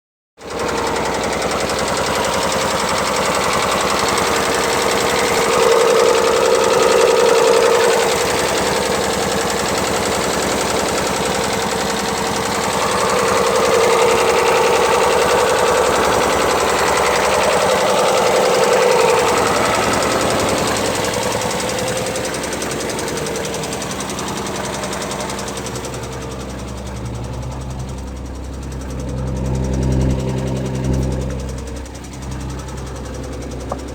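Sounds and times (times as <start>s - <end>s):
car engine rattling clatter: 0.4s - 33.9s
engine hum: 0.4s - 33.9s.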